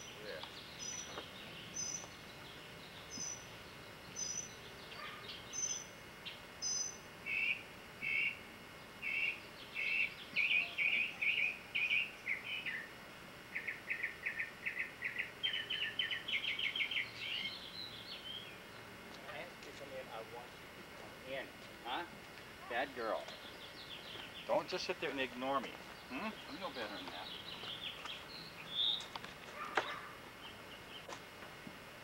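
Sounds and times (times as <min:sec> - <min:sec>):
songbird singing: 0:00.0 - 0:20.3, 0:21.4 - 0:31.2.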